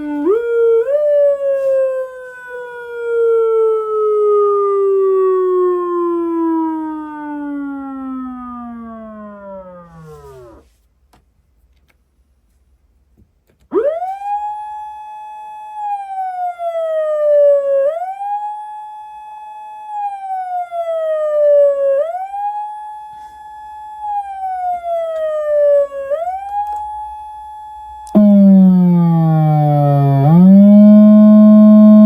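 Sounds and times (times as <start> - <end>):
electronic siren wailing: 0.0 - 10.7, 13.7 - 32.0
low buzzy siren tone: 0.0 - 10.7, 13.7 - 32.0.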